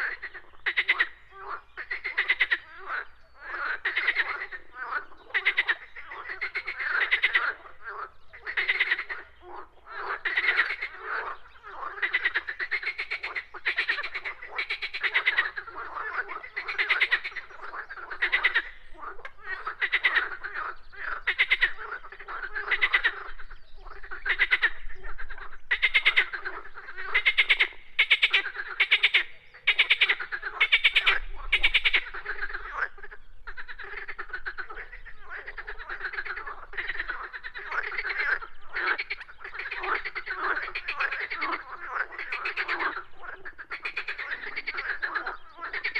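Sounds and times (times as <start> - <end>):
frogs croaking in chorus: 0.0 - 45.9.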